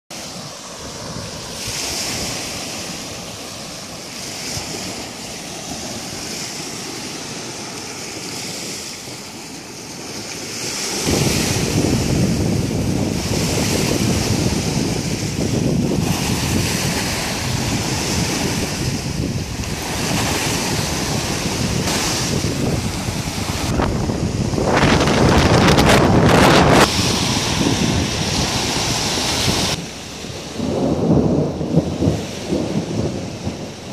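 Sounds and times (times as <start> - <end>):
small waves washing on shore: 0.1 - 33.9
wind buffeting microphone: 0.2 - 33.9.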